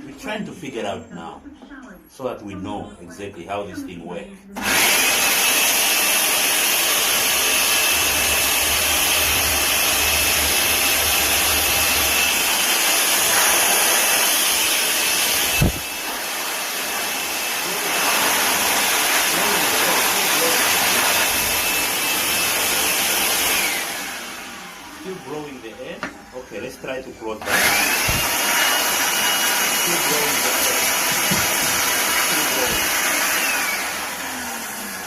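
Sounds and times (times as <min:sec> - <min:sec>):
vacuum cleaner motor whine: 0:04.6 - 0:35.0.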